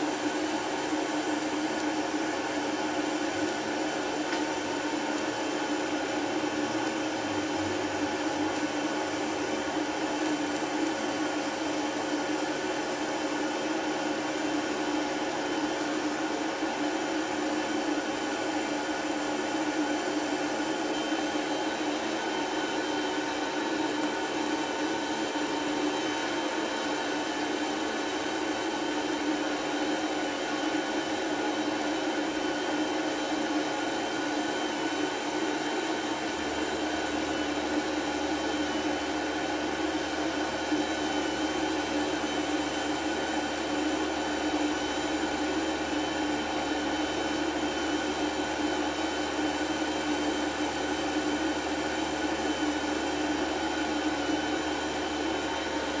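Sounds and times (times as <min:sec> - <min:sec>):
laser cutter humming and hissing: 0:00.0 - 0:56.0.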